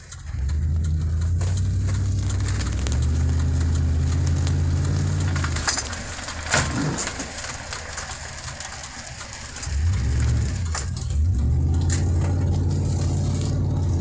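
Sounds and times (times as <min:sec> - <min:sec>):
car engine hum inside cabin: 0:00.0 - 0:14.0.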